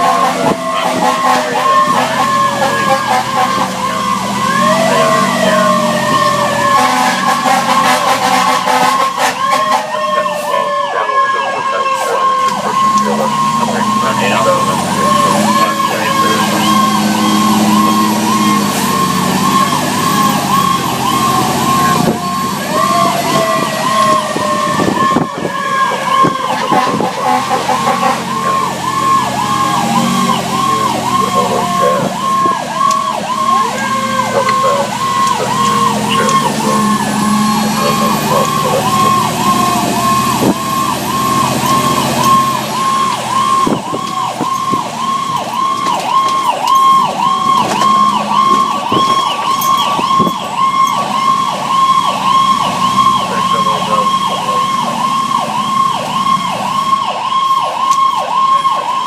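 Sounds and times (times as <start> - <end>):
fire engine running: 0.0 - 59.0
fire engine siren yelping: 0.0 - 59.0.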